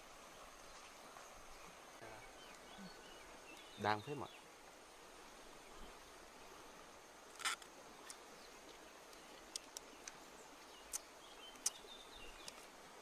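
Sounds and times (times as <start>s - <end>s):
faint insect hum: 0.0s - 13.0s.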